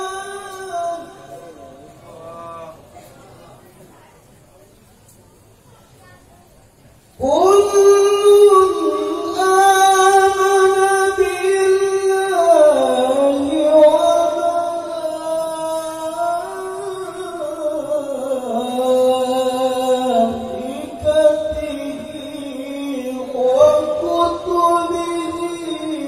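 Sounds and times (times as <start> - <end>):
man chanting recitation: 0.0 - 3.1, 7.1 - 26.0.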